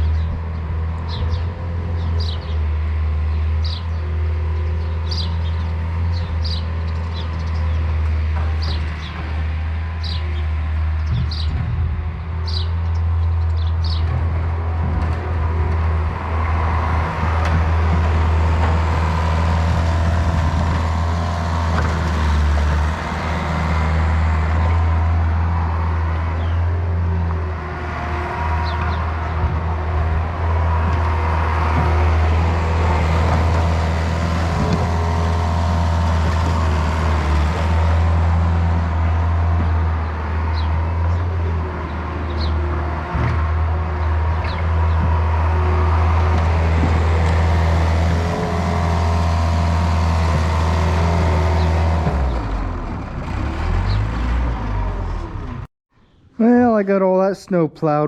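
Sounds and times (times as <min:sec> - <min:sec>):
vehicle engine droning: 0:00.0 - 0:55.7.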